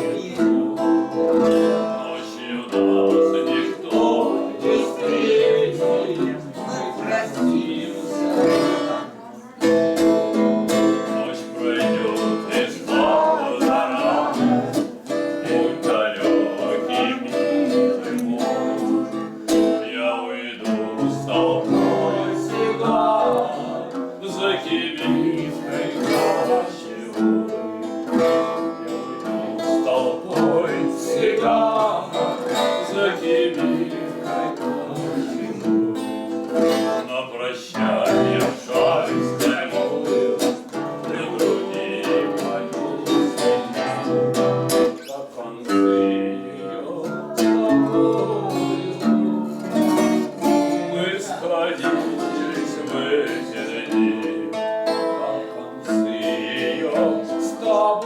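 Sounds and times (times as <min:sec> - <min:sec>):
person singing: 0:00.0 - 0:58.0
strummed acoustic guitar: 0:00.0 - 0:58.0.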